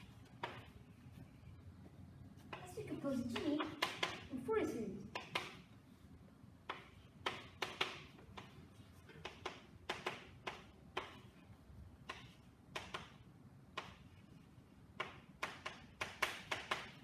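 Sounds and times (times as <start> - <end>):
chalk tapping on a blackboard: 0.0 - 1.3, 2.4 - 4.3, 5.1 - 5.7, 6.6 - 17.0.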